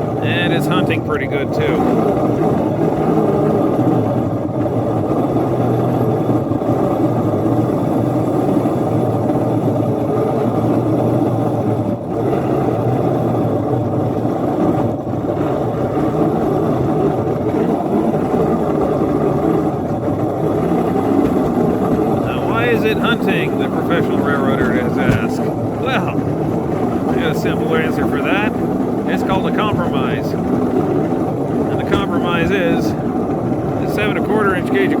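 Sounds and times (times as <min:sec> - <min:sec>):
small locomotive engine droning: 0:00.0 - 0:35.0.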